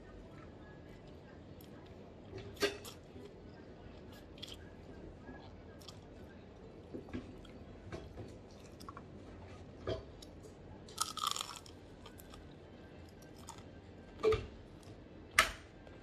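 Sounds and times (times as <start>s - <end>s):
crunching and chewing food: 0.1s - 14.0s.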